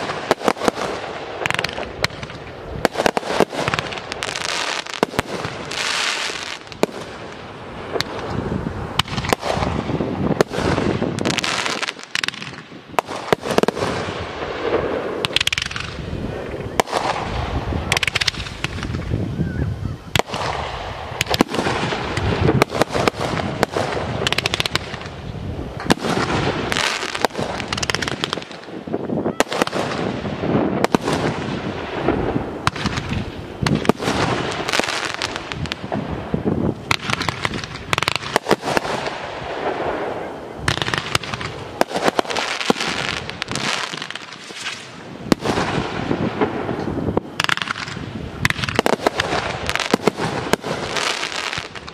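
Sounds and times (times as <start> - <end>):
firework crackling: 0.0 - 51.9.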